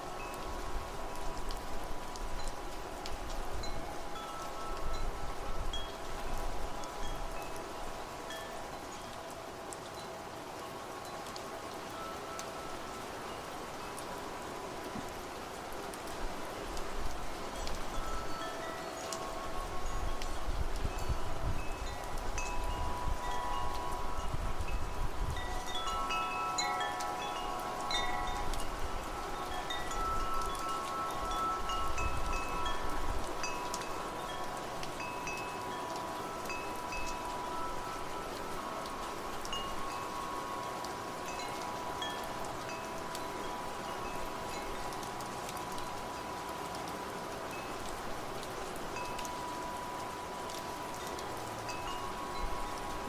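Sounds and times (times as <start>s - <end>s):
wind chimes ringing: 0.0s - 15.2s, 16.0s - 53.0s
low wind gusts: 0.0s - 53.0s
rain hiss: 0.0s - 53.0s.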